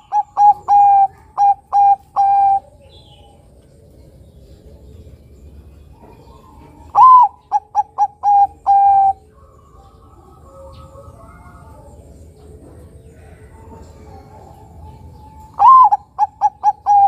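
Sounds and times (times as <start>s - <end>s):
dove singing: 0.0s - 17.0s.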